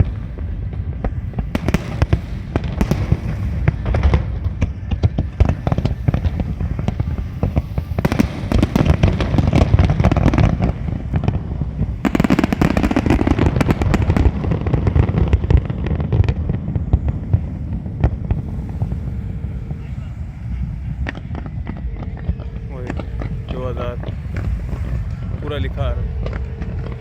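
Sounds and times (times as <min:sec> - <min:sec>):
continuous low rumble: 0:00.0 - 0:27.0
fireworks bangs and crackling: 0:00.0 - 0:27.0.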